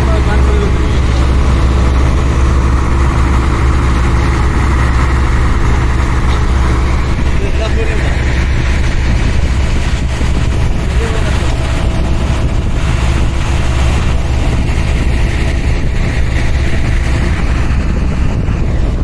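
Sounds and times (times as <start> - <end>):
diesel truck engines rumbling: 0.0 - 19.0.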